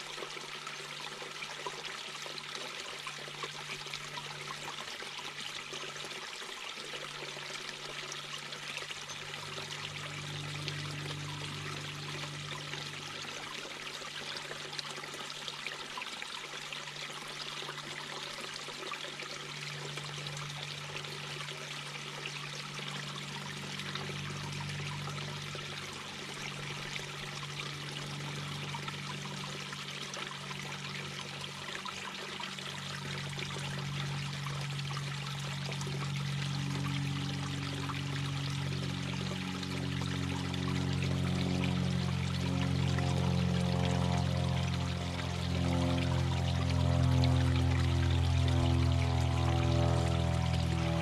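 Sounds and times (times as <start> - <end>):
brook babbling over stones: 0.0 - 51.0.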